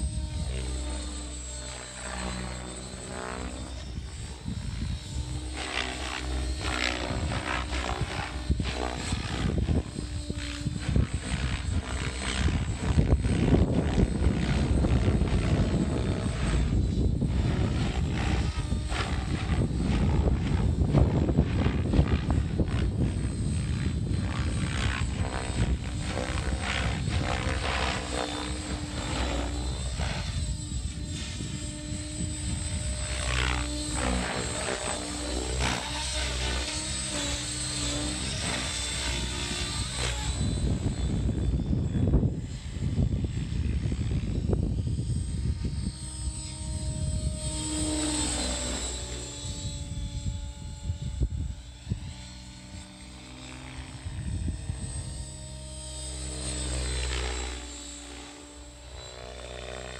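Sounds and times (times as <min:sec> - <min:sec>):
electric motor whine: 0:00.0 - 0:59.9
helicopter rotor blades chopping: 0:00.0 - 0:59.9.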